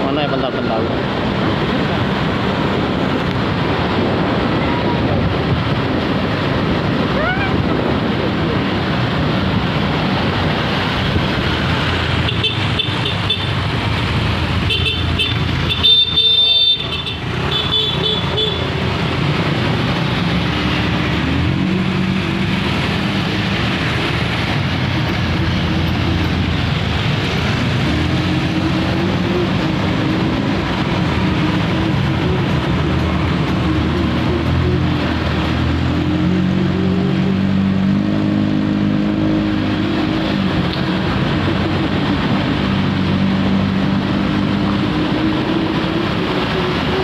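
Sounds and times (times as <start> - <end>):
road traffic engines: 0.0 - 47.0.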